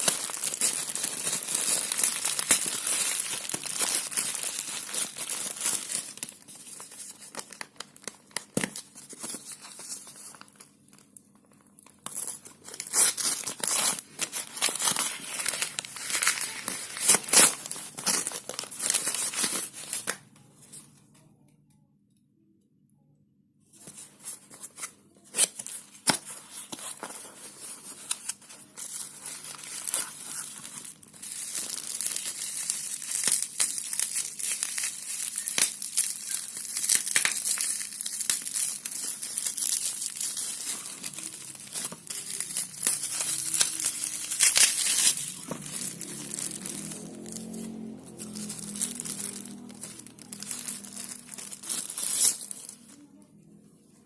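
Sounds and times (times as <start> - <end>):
packaging crinkling and rustling: 0.0 - 20.9, 23.8 - 53.2.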